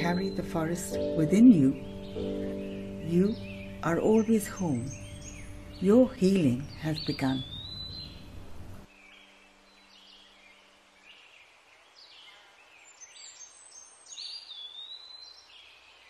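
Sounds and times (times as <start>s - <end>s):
birds chirping and whistling: 0.0s - 11.4s, 12.0s - 15.8s
faint background hiss: 0.0s - 16.0s.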